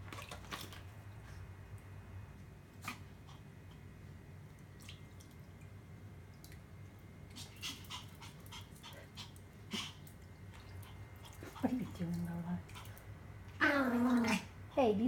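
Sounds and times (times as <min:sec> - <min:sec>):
light water splashes: 0:00.0 - 0:13.6.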